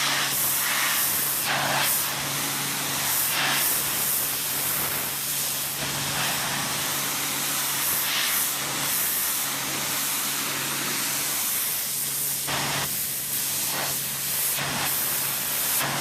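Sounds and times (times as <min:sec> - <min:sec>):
water jet hissing against concrete: 0:00.0 - 0:16.0.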